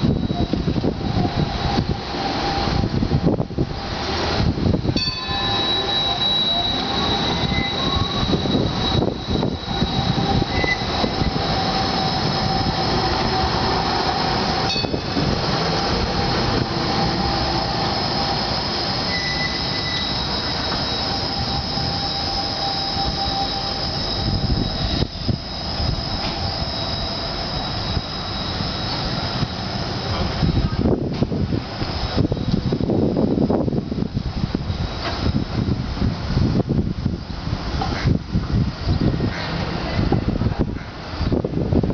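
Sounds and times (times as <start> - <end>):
tram wheels squealing: 0.0 - 35.7, 37.7 - 41.5.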